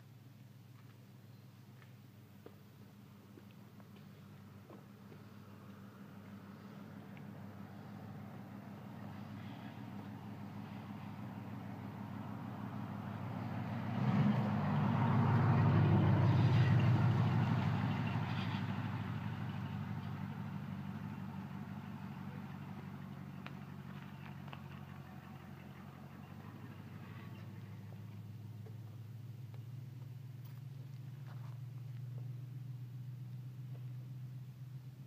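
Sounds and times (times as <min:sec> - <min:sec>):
motor engine passing by: 0:04.0 - 0:34.4.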